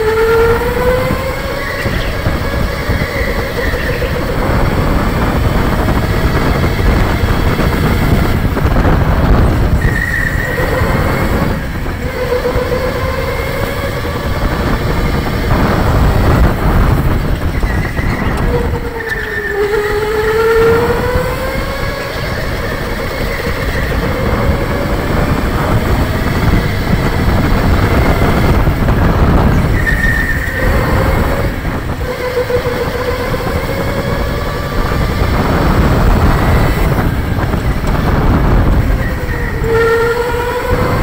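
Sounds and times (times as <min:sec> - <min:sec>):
electric go-kart motor whining: 0:00.0 - 0:41.0
rumble of tyres and chassis: 0:00.0 - 0:41.0.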